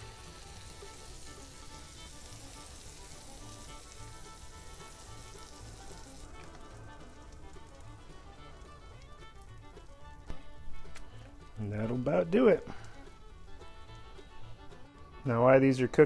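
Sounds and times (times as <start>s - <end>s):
pancake batter sizzling on griddle: 0.0s - 15.2s.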